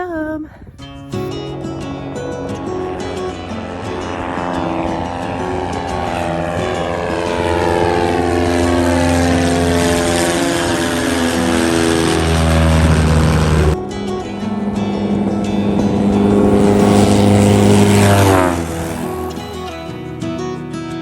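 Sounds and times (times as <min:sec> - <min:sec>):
propeller airplane taking off: 0:01.3 - 0:20.4.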